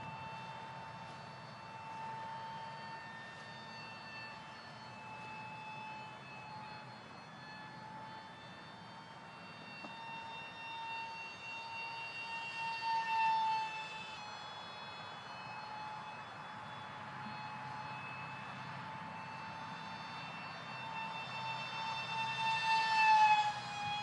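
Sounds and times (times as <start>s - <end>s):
electric ducted fan whine: 0.0s - 24.0s.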